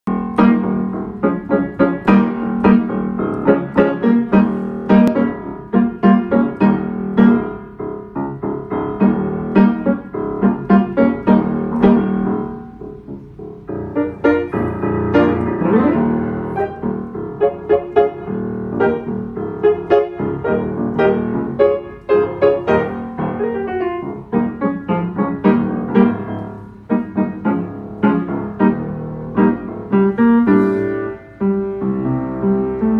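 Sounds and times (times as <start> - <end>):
upright piano playing: 0.0 - 32.9.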